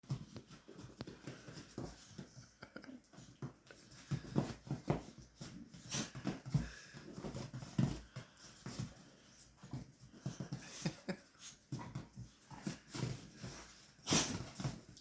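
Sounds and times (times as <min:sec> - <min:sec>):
dogs play-fighting noises: 0:00.1 - 0:15.0.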